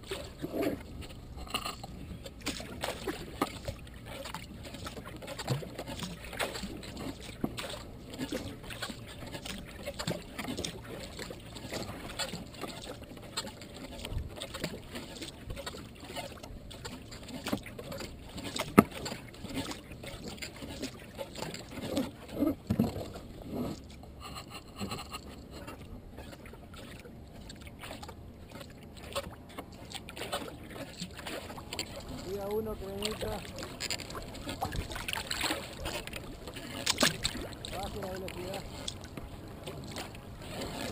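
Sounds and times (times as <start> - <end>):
paddle splashing: 0.0 - 40.9
water lapping against hull: 0.0 - 40.9.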